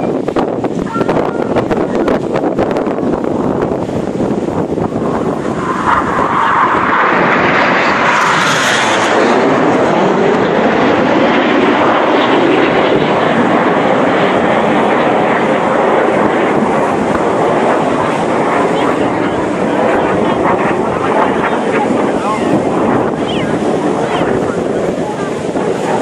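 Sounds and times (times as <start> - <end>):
jets flying past: 0.0 - 26.0.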